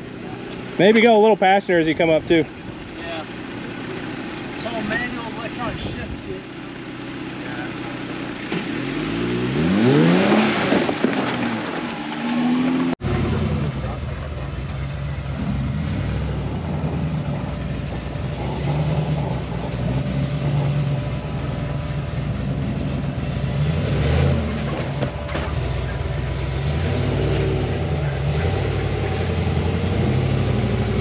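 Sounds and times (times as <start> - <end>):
truck engine revving under load: 0.0 - 31.0.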